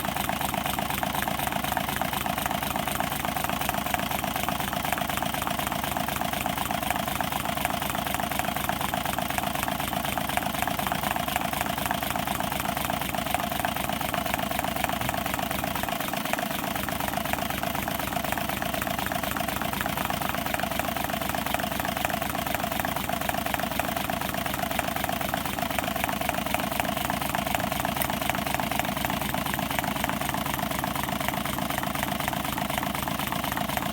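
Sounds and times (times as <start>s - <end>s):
engine mechanical clatter: 0.0s - 33.9s.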